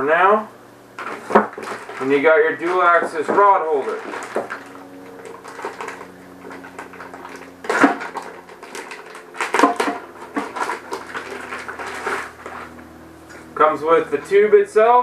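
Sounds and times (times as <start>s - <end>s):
faint steady hum: 0.0s - 15.0s
plastic packaging crinkling: 1.0s - 13.5s.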